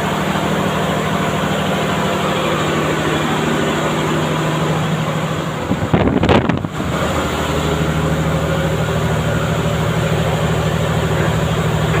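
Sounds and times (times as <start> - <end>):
refrigeration compressor humming: 0.0 - 12.0.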